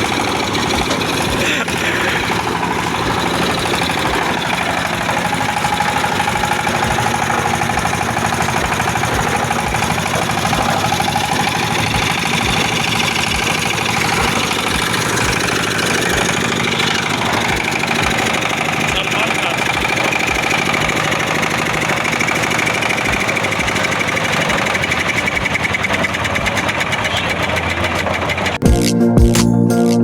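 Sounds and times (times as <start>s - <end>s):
concrete mixer whining: 0.0s - 28.6s.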